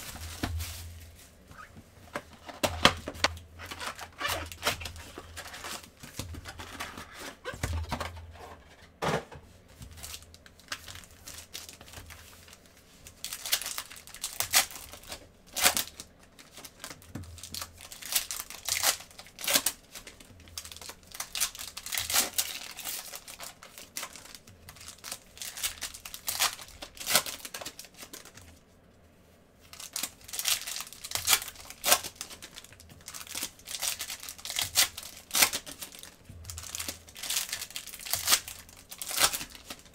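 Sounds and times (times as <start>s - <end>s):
foil wrappers tearing and crinkling: 2.5s - 7.8s, 9.9s - 28.5s, 29.7s - 39.9s.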